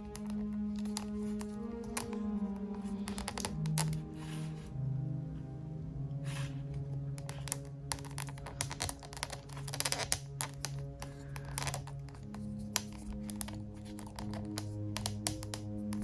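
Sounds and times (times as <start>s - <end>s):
plastic parts clicking: 0.0s - 4.2s, 6.7s - 16.0s
background music: 0.0s - 16.0s.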